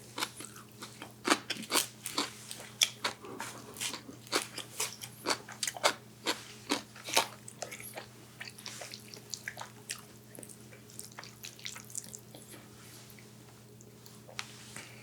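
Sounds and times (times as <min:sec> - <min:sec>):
wet chewing mouth sounds: 0:00.2 - 0:13.2.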